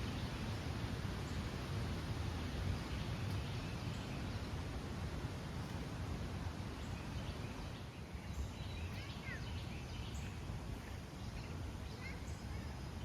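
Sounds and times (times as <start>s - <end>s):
low background hum and hiss: 0.0s - 13.0s.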